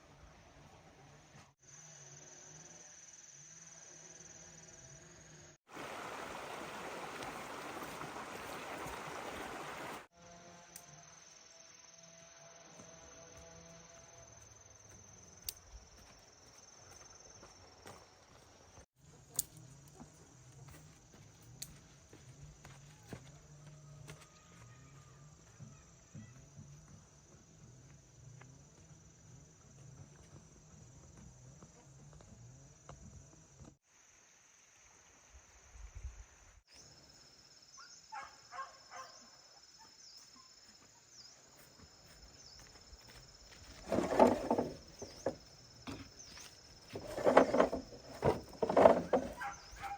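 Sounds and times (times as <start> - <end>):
crickets trilling: 1.6 - 23.5, 24.6 - 49.9.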